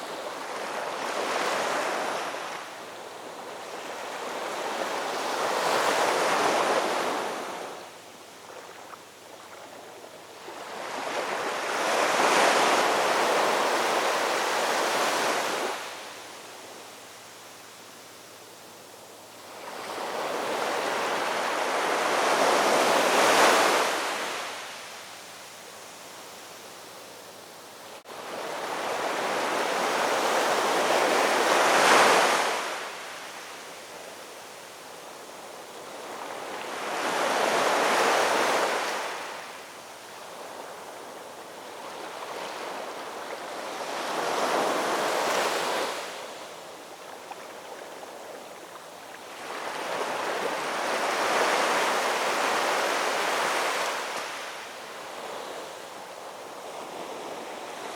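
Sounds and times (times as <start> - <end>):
ocean waves breaking on shore: 0.0 - 18.0, 19.4 - 57.9.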